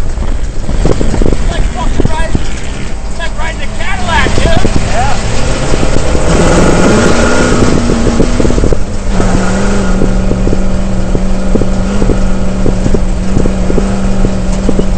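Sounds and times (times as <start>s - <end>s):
truck engine running hard: 0.0s - 14.9s
wind noise on microphone: 0.0s - 14.9s.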